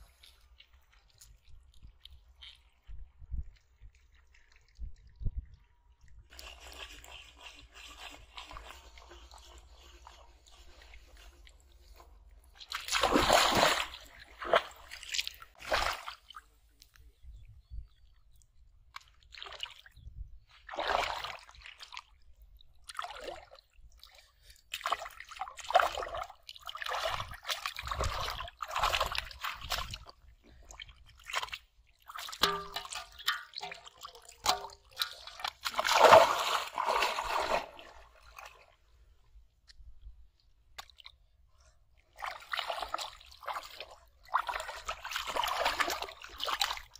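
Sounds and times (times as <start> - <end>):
water splashing and sloshing: 0.0 - 46.9.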